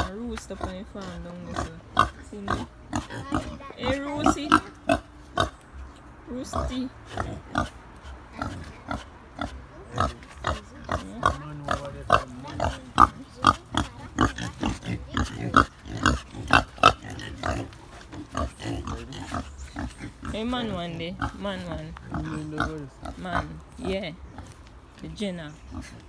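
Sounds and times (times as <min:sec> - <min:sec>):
pigs grunting: 0:00.0 - 0:24.6, 0:25.4 - 0:26.0.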